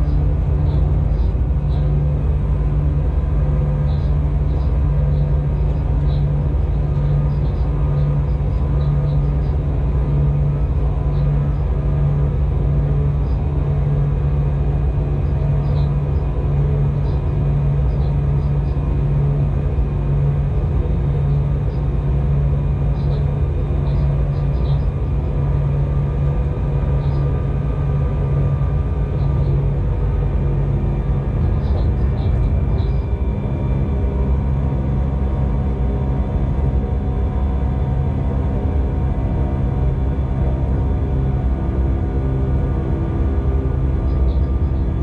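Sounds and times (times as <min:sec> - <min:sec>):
locomotive rumble and hum: 0:00.0 - 0:45.0.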